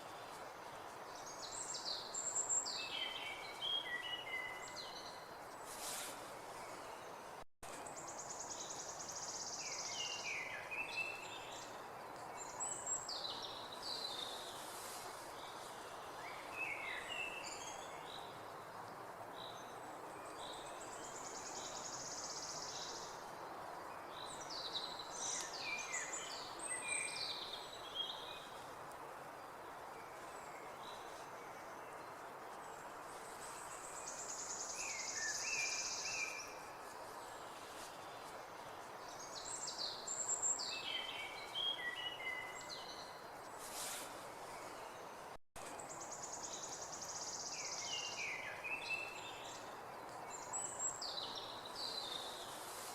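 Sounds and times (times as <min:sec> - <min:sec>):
background hiss: 0:00.0 - 0:52.9.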